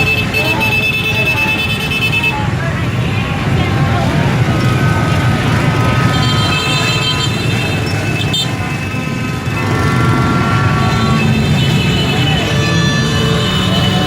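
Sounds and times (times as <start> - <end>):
motorbike engines rumbling: 0.0 - 14.0
motorbike horns honking: 0.0 - 14.0.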